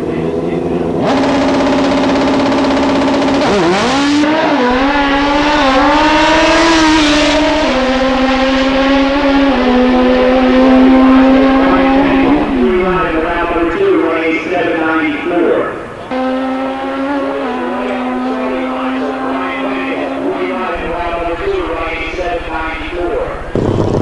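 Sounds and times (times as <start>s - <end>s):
drag racing motorcycles revving: 0.0s - 24.0s
motorcycles shifting up through gears: 0.0s - 24.0s.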